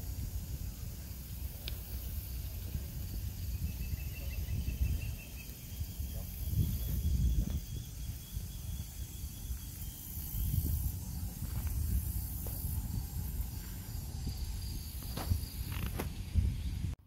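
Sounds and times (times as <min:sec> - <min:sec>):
low uneven rumble: 0:00.0 - 0:17.0
steady high hiss: 0:00.0 - 0:17.0.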